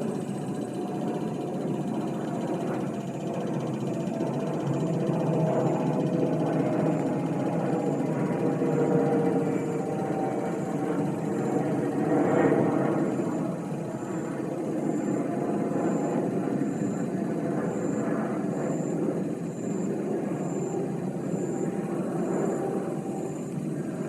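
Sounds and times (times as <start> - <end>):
jet engines rumbling overhead: 0.0 - 24.0.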